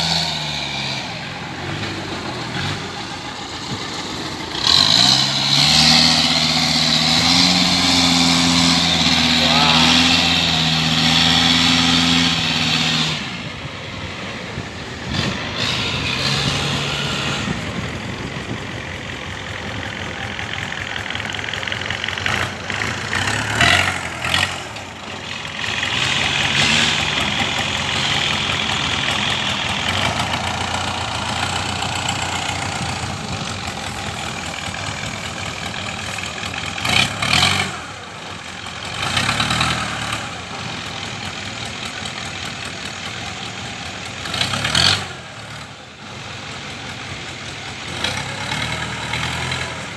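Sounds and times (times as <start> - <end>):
combine harvester diesel engine: 0.0 - 49.9.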